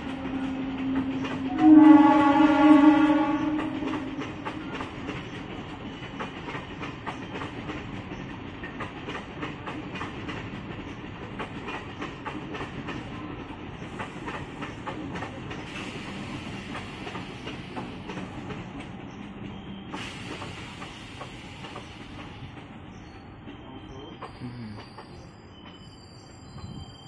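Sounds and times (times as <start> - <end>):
train wheels clattering: 0.0 - 26.4
rumble of train coaches: 0.0 - 27.0.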